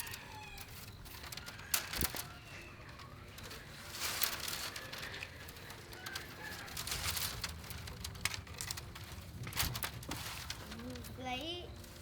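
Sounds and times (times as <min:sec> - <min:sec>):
bamboo strips rustling and clicking: 0:00.0 - 0:12.0.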